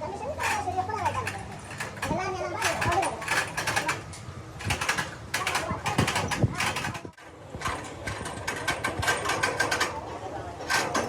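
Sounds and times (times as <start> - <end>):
rapid mechanical clicking: 0.4 - 11.0.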